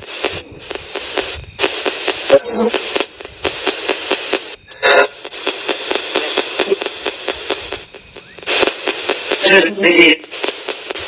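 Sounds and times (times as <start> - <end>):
radio static with clicks: 0.0 - 11.0.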